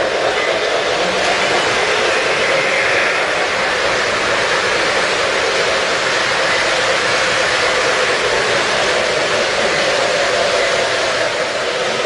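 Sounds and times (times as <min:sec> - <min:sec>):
model train whirring rumble: 0:00.0 - 0:12.0.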